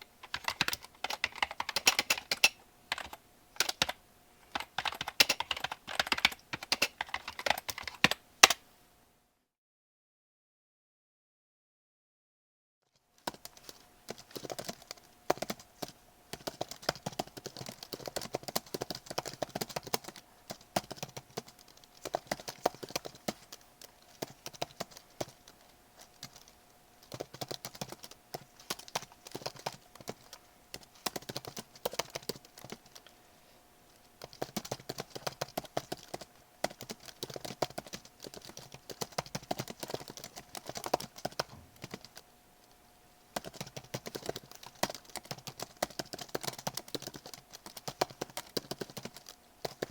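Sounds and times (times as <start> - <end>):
typing on computer keyboard: 0.0 - 8.6, 13.2 - 33.1, 34.1 - 42.2, 43.4 - 49.9.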